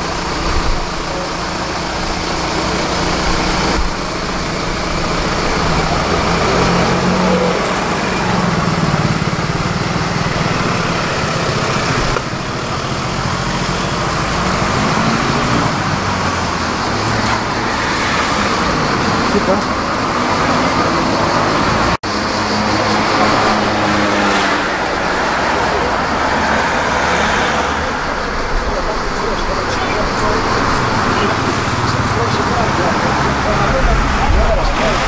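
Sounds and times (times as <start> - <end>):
cars driving past: 0.0 - 35.0.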